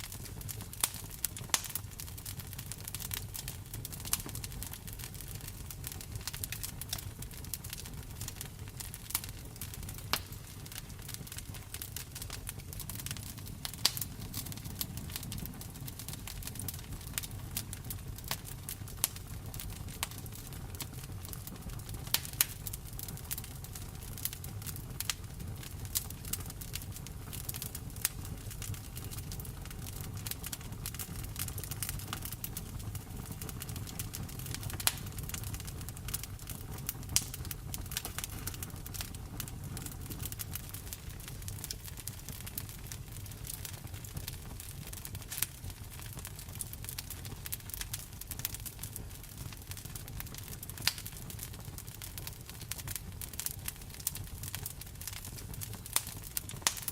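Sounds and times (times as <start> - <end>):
rain pattering: 0.0 - 56.9
wood fire crackling and popping: 0.0 - 56.9.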